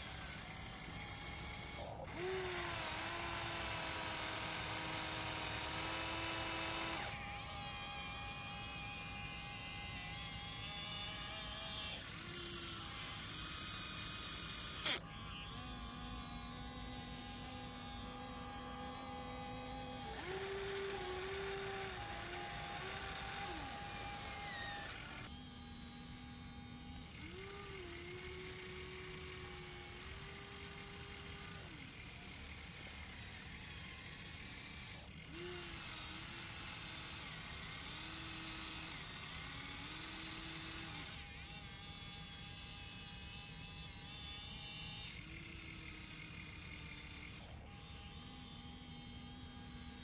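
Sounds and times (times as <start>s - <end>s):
small electric motors whining: 0.0s - 50.0s.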